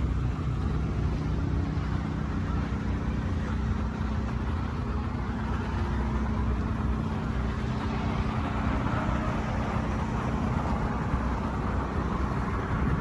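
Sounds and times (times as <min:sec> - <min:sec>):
faint steady hum: 0:00.0 - 0:13.0
traffic rumble: 0:00.0 - 0:13.0.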